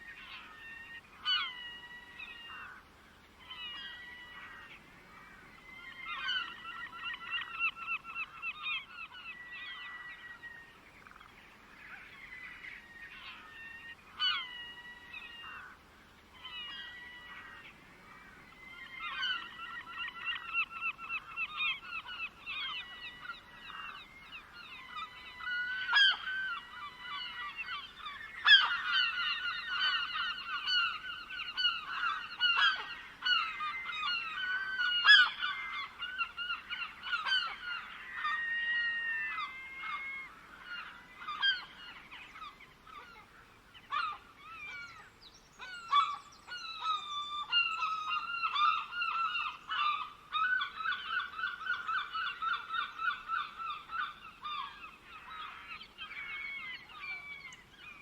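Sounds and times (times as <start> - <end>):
flock of birds calling: 0.0 - 58.0.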